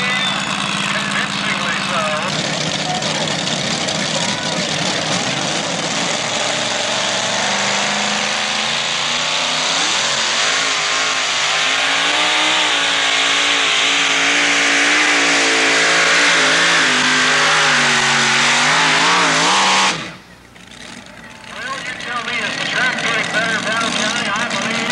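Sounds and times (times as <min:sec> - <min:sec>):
truck engine at full throttle: 0:00.0 - 0:24.9.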